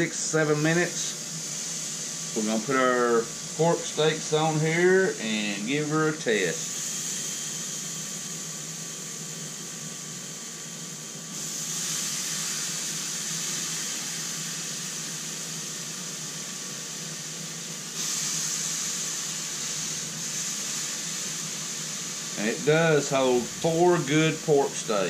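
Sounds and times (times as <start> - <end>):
fan humming: 0.0 - 11.3, 12.7 - 25.0.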